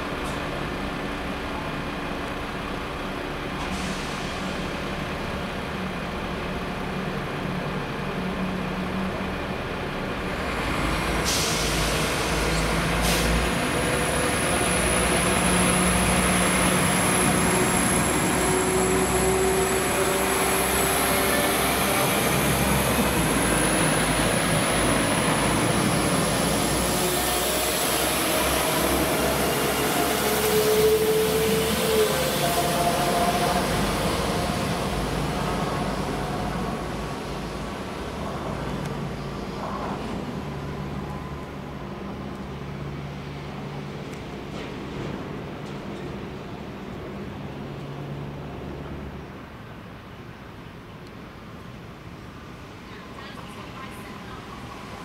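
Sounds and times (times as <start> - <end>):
diesel train engine hum: 0.0 - 55.0.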